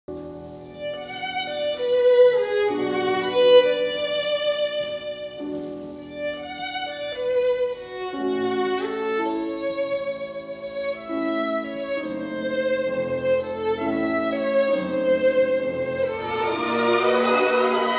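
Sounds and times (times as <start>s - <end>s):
solo violin slow melody: 0.1s - 17.9s.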